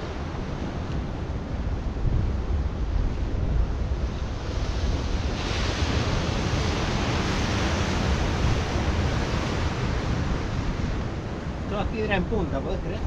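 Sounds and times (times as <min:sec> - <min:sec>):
waves breaking over rocks: 0:00.0 - 0:13.0
wind buffeting microphone: 0:00.0 - 0:13.0.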